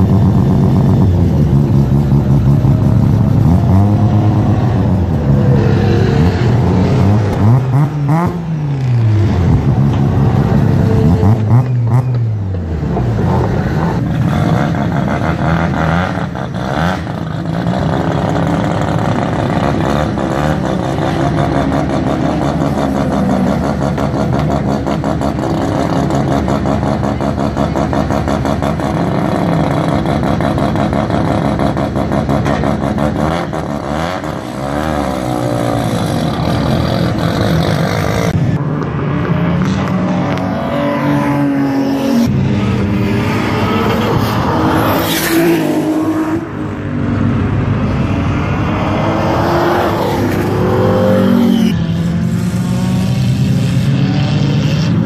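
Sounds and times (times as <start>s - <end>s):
car engine idling and blipping: 0.0s - 55.0s.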